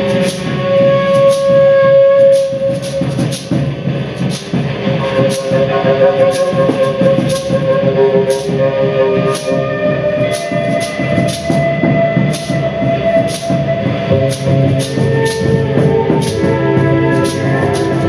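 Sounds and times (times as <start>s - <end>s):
layered long held tones: 0.0s - 18.0s.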